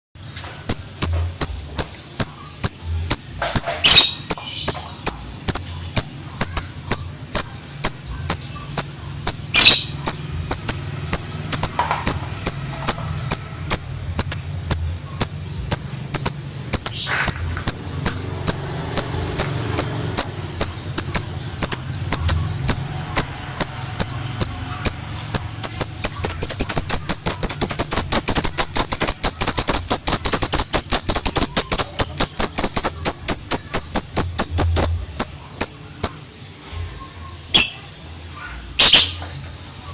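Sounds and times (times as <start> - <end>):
lovebird chirping trill: 0.2 - 39.3.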